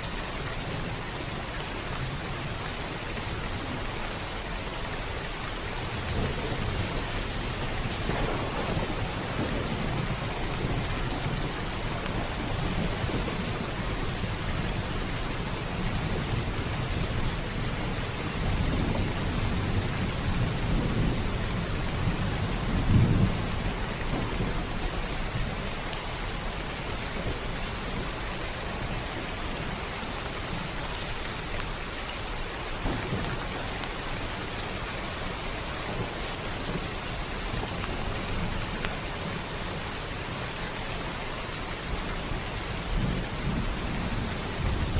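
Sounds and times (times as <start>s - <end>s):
heavy rain on a roof: 0.0s - 44.9s
low rumble of thunder: 3.4s - 44.9s.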